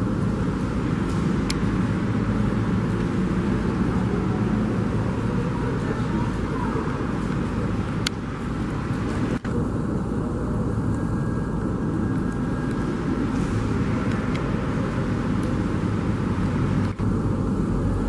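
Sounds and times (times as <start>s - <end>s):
jet airliner rumble: 0.0s - 18.0s.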